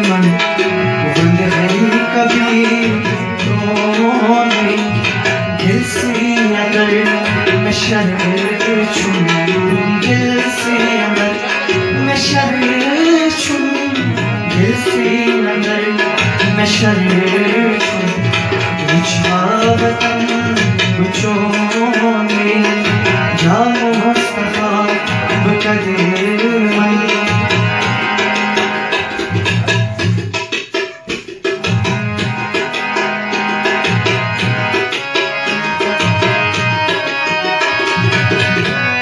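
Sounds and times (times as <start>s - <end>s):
harmonium melody: 0.0s - 39.0s
tabla rhythm: 0.0s - 39.0s.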